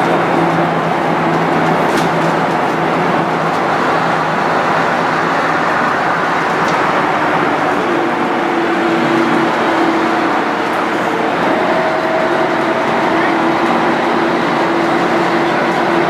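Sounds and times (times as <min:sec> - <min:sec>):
diesel bus engine drone: 0:00.0 - 0:16.0
road noise: 0:00.0 - 0:16.0.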